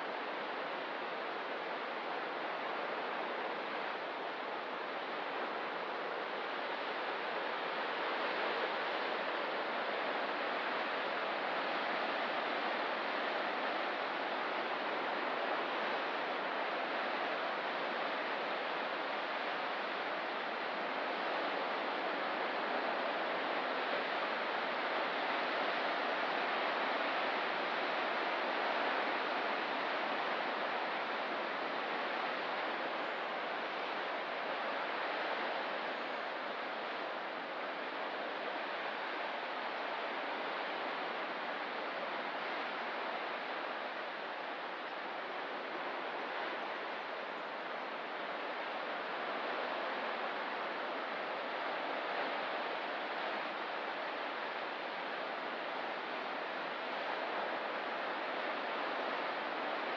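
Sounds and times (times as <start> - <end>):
ocean surf: 0.0 - 59.9.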